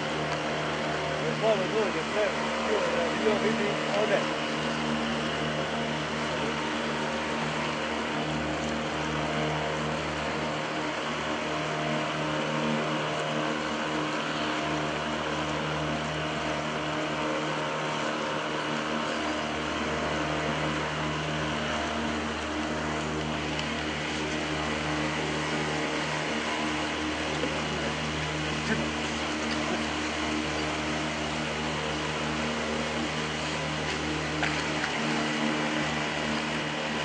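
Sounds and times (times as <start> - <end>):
motorboat engine hum: 0.0 - 37.0.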